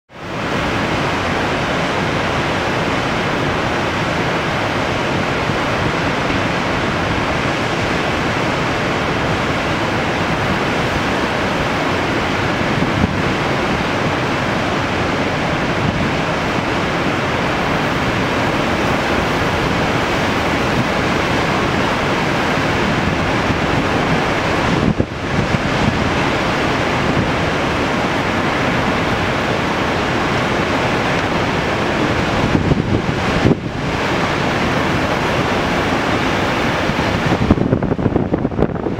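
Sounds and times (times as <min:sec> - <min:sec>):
floodwater rushing over spillway: 0:00.1 - 0:38.9.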